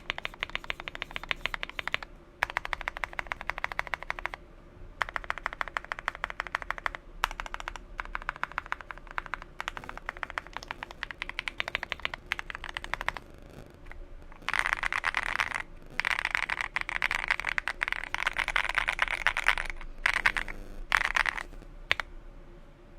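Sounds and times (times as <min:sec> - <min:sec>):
mechanical keyboard typing: 0:00.0 - 0:04.4, 0:05.0 - 0:22.1.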